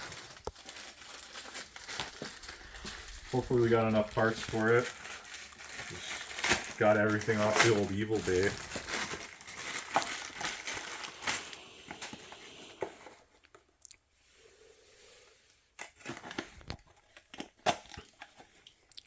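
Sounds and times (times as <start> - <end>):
packing tape tearing: 0.0 - 13.2, 15.8 - 18.5
wrapping crinkling: 0.0 - 13.6, 15.8 - 19.0.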